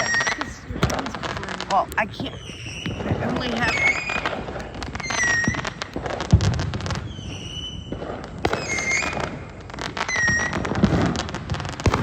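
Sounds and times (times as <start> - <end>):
fireworks popping and crackling: 0.0 - 12.0
high whistling fireworks: 0.0 - 12.0
heavy firework bang: 2.3 - 12.0.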